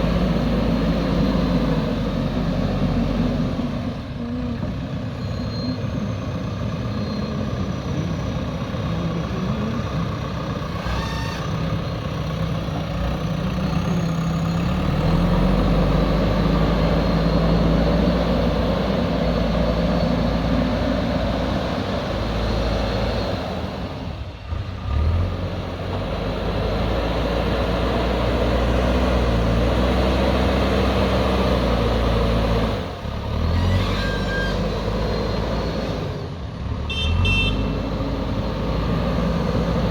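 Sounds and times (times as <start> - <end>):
diesel machinery engine revving: 0.0 - 39.9.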